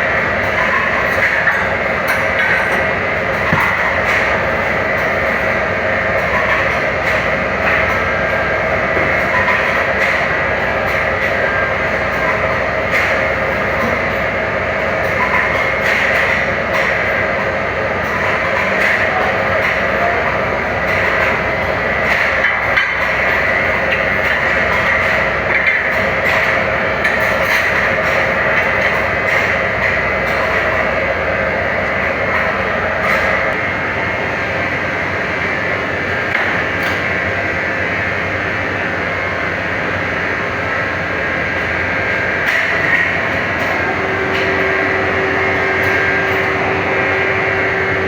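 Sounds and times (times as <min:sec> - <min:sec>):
machine running: 0:00.0 - 0:48.0.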